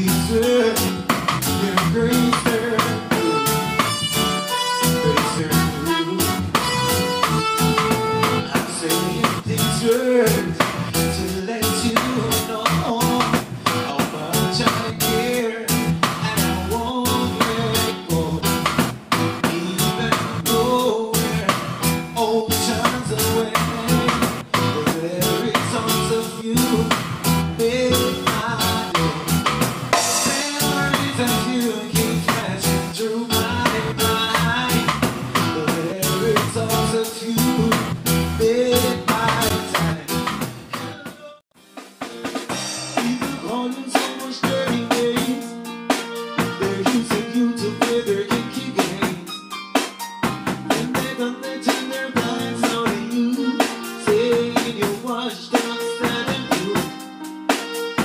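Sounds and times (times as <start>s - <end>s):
live band playing groove: 0.0s - 58.0s.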